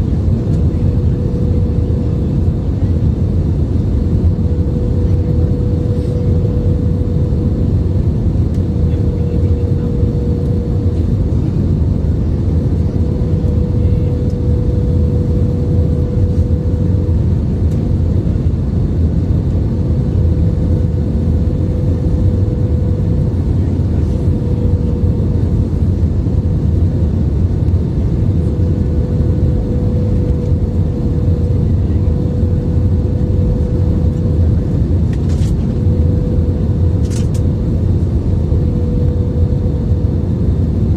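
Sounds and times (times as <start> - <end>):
airliner cabin engine noise: 0.0 - 40.9
constant hum tone: 0.0 - 40.9.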